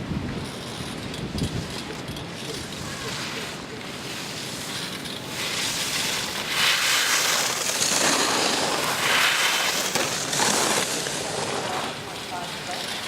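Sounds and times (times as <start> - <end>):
ski edges scraping on snow: 2.4 - 13.0.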